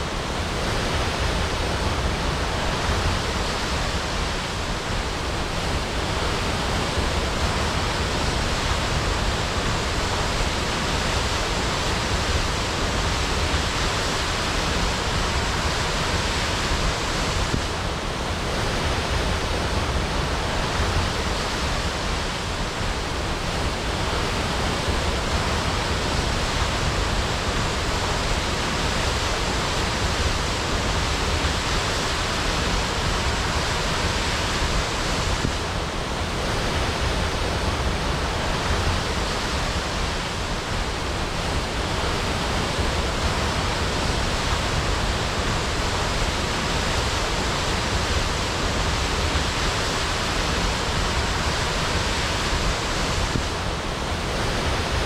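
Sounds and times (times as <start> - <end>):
waterfall crashing: 0.0 - 55.0.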